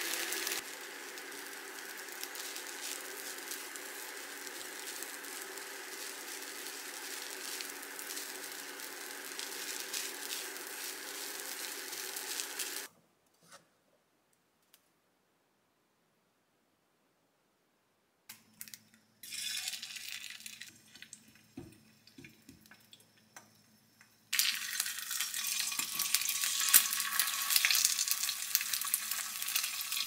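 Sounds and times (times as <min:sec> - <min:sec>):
rice sizzling in a pan: 0:00.0 - 0:12.9, 0:18.6 - 0:30.0.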